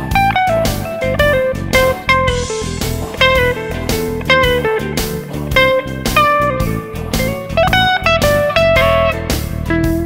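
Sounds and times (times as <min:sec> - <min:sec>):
bluesy electric guitar music: 0:00.0 - 0:10.0.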